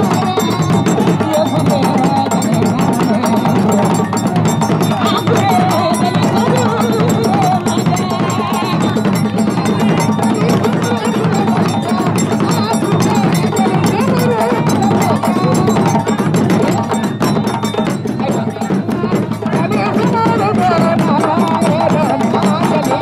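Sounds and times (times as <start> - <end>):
metal bell clanking: 0.0 - 19.6
djembes and bass drums: 0.0 - 23.0.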